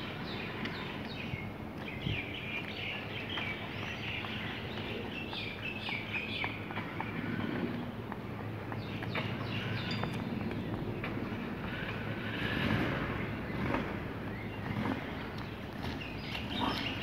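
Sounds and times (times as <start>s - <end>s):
running footsteps on asphalt: 0.0s - 17.0s
small birds chirping: 0.0s - 17.0s.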